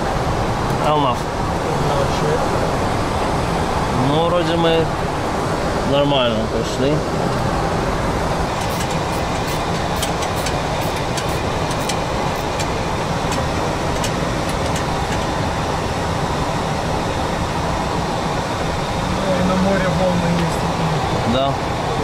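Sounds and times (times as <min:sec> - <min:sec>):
steady rushing noise in cockpit: 0:00.0 - 0:22.0.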